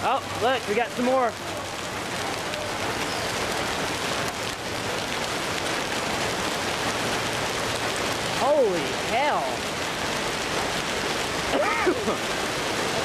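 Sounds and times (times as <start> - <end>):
hail and rain pelting: 0.0 - 13.0.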